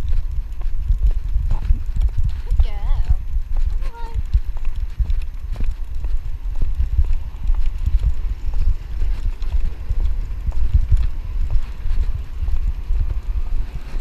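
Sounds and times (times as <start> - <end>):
light knocks of dog steps: 0.0 - 13.2
low rumble of movement: 0.0 - 14.0
wind: 0.0 - 14.0.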